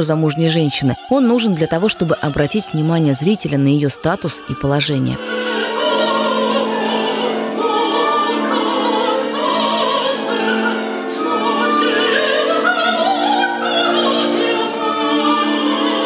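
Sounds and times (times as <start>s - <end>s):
opera singers and chorus singing: 0.0s - 16.0s.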